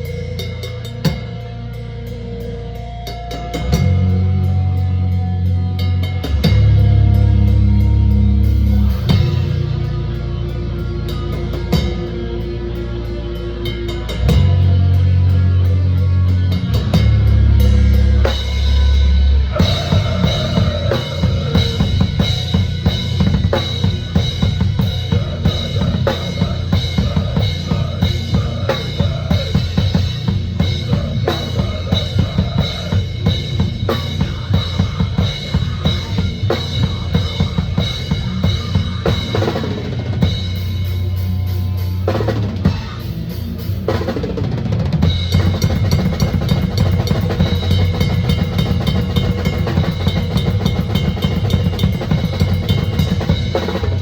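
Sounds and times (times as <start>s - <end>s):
fast heavy drum kit: 0.0s - 54.0s
heavy low held chords: 0.0s - 54.0s.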